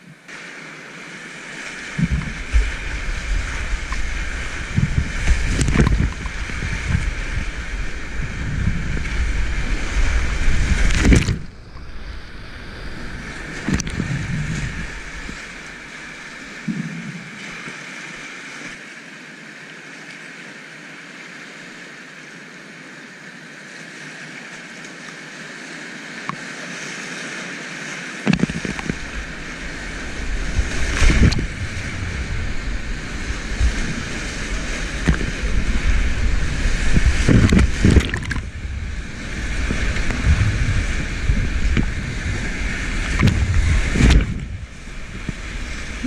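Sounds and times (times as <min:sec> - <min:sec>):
fast water rushing: 0:00.0 - 0:46.0
waves breaking over kayak: 0:00.0 - 0:46.0.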